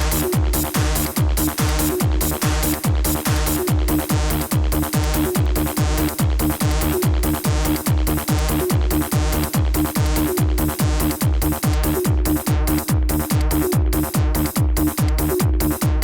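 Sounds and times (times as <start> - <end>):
electronic dance music: 0.0 - 16.0.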